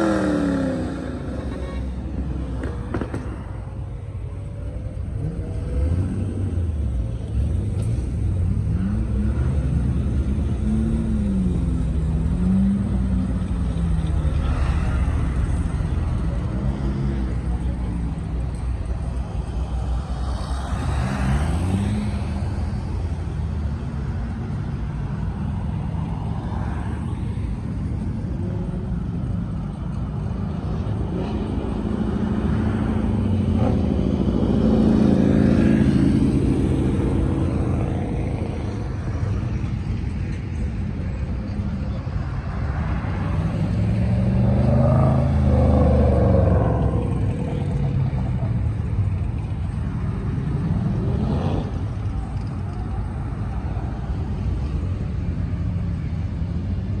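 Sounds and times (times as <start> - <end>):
cars driving past: 0.0 - 57.0.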